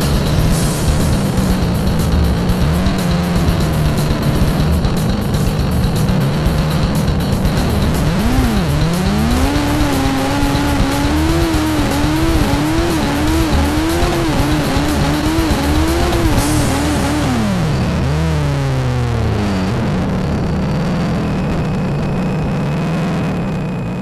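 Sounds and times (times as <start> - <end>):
motorcycle engine revving high: 0.0 - 24.0.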